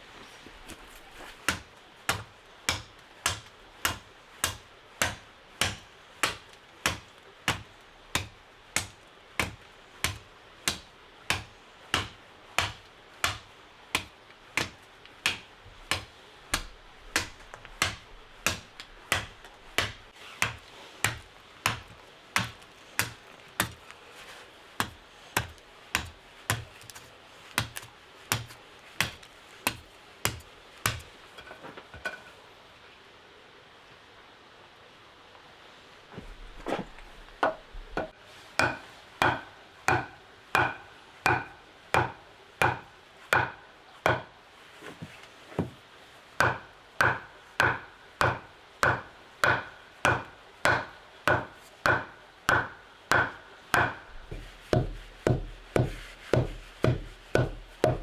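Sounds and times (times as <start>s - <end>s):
tool striking wood: 1.5s - 23.9s, 24.8s - 31.1s, 37.4s - 44.3s, 46.4s - 58.0s.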